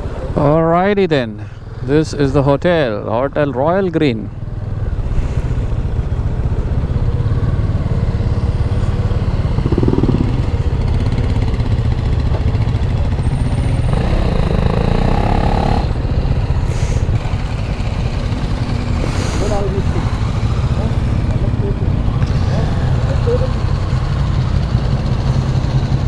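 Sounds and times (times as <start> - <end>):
motorcycle engine rumble: 4.3 - 26.0.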